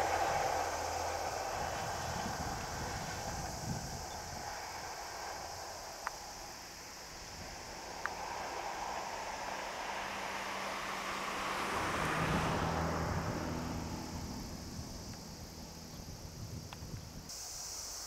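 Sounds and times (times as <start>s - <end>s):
vehicle passing by: 0.0s - 16.6s.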